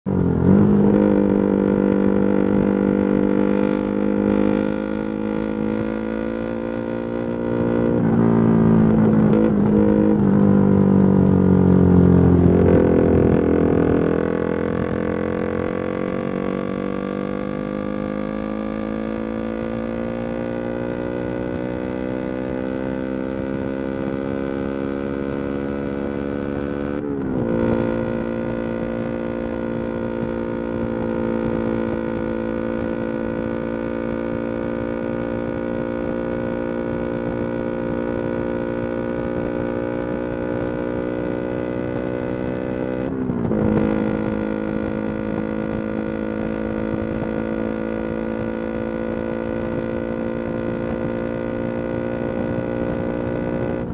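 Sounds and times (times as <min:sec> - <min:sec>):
motorcycle engine running: 0:00.1 - 0:53.9.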